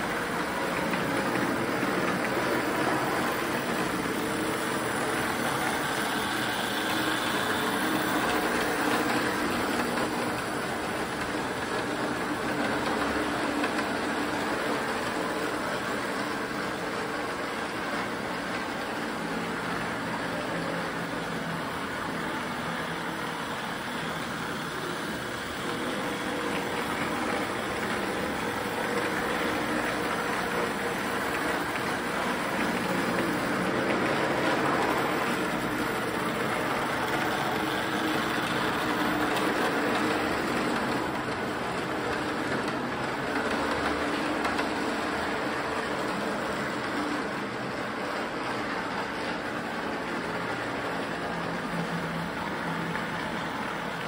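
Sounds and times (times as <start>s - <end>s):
model train motor whirring: 0.0s - 47.4s.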